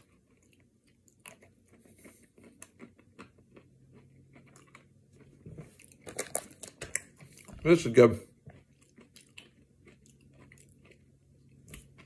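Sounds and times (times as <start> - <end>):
crunchy ice cream bar chewing: 0.0 - 7.8, 8.4 - 12.0.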